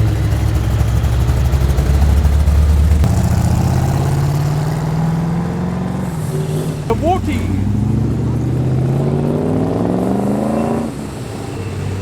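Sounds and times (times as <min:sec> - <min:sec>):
car engine revving: 0:00.1 - 0:11.2.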